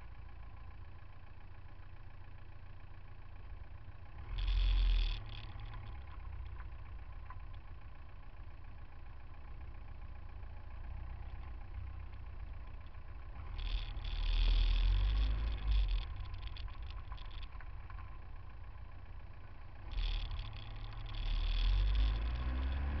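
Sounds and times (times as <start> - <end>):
city traffic rumble: 3.0 - 23.0.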